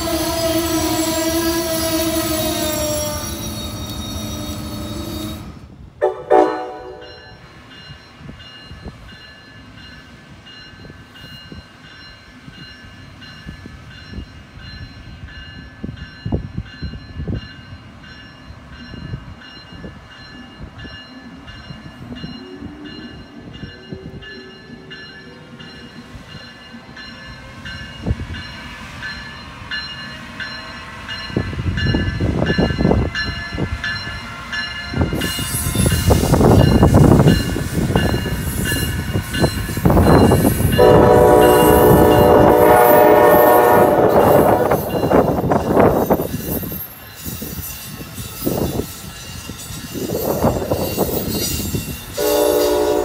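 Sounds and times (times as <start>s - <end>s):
train wheels squealing: 0.0s - 5.8s, 7.0s - 53.0s
electric locomotive whine: 0.0s - 53.0s.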